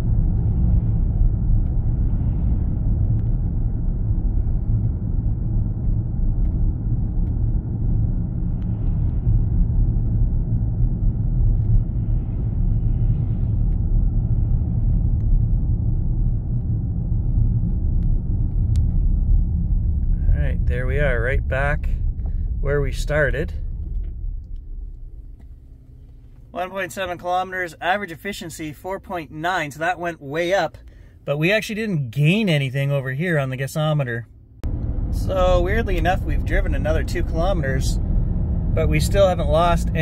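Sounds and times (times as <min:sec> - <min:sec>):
road and tyre rumble: 0:00.0 - 0:31.3, 0:34.2 - 0:40.0.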